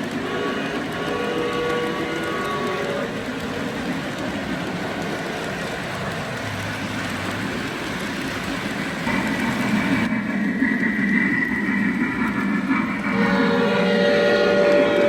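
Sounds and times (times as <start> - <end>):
model train rolling on track: 0.0 - 15.0.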